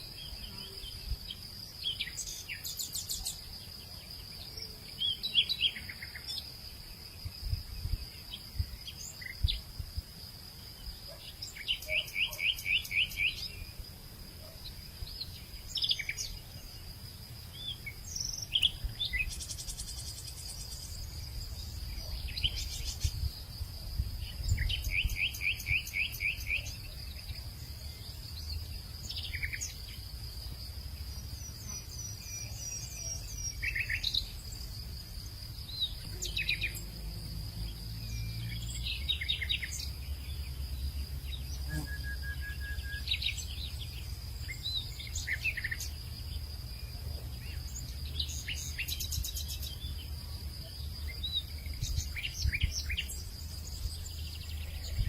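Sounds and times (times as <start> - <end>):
insect drone: 0.0 - 55.0
small birds chirping: 0.0 - 55.0.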